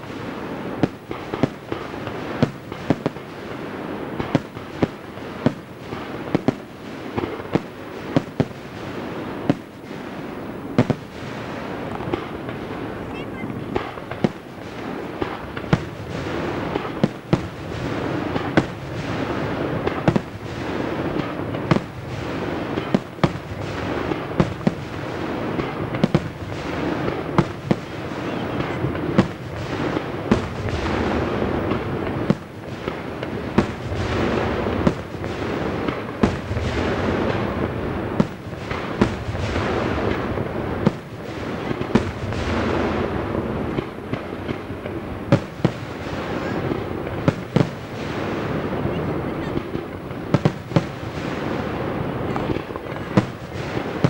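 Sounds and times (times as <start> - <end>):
firework shells bursting: 0.0 - 54.0
rumble and crackle of fireworks: 0.0 - 54.0.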